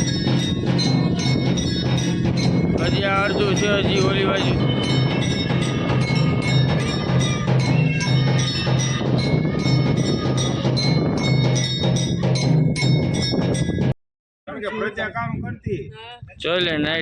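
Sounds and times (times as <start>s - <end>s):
bells struck rapidly: 0.0s - 14.0s
steady low beat: 0.0s - 14.0s.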